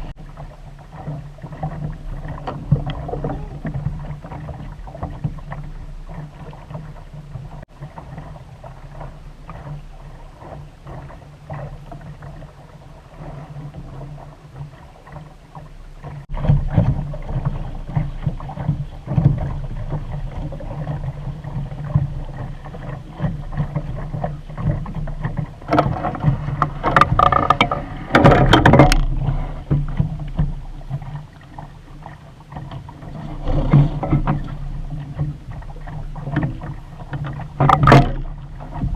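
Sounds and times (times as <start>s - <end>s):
water splashing against hull: 0.0s - 38.9s.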